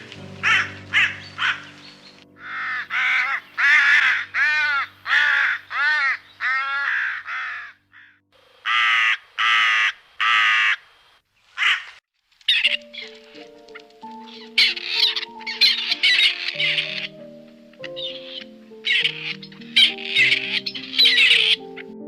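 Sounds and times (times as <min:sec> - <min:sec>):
bird calling: 0:00.0 - 0:22.0.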